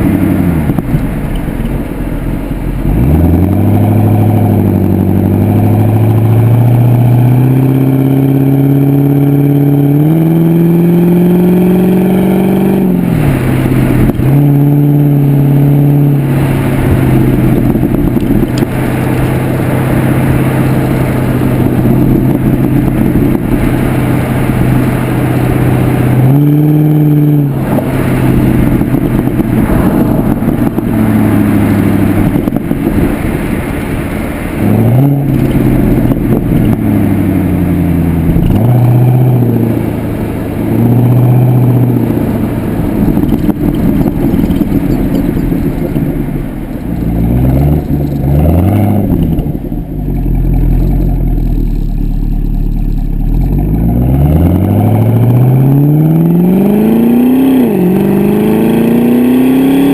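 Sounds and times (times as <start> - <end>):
car exhaust revving: 0.0 - 59.9.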